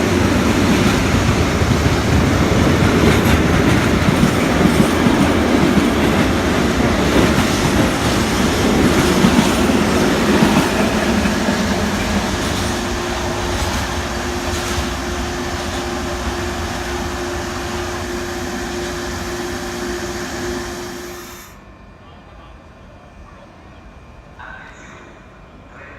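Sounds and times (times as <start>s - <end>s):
train rumbling on rails: 0.0s - 21.4s.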